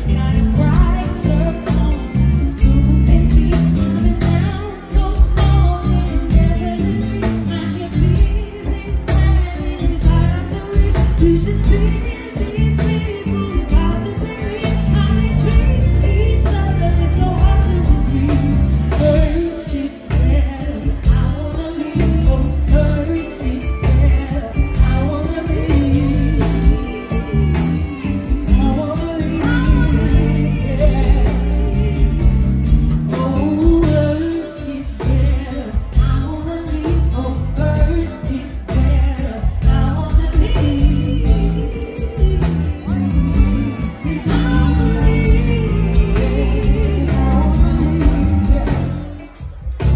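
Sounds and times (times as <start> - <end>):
bass guitar: 0.0 - 49.9
drum kit: 0.0 - 49.9
woman singing: 0.0 - 49.9.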